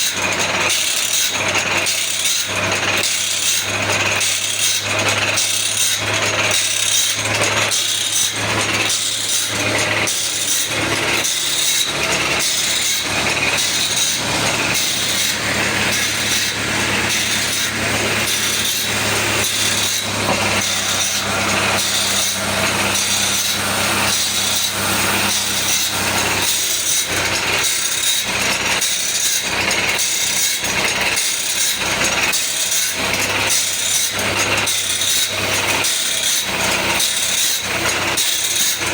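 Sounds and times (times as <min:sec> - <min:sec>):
rasping grinding strokes: 0:00.0 - 0:38.9
steady motor hum: 0:00.0 - 0:38.9.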